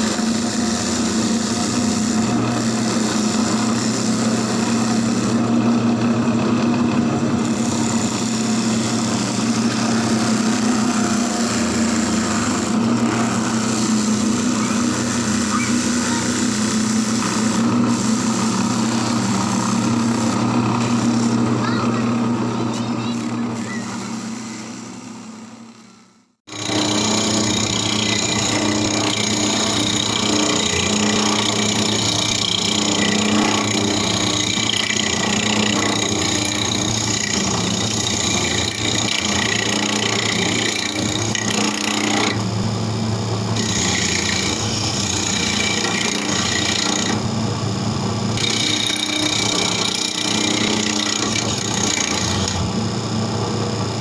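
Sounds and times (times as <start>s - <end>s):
electric grinder running: 0.0s - 54.0s.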